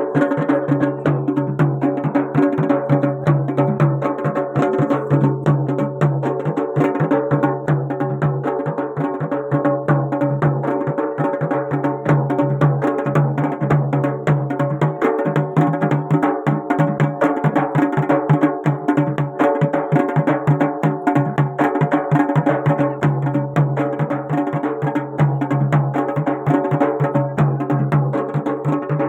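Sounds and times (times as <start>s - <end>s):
fast dense drumming: 0.1s - 29.0s.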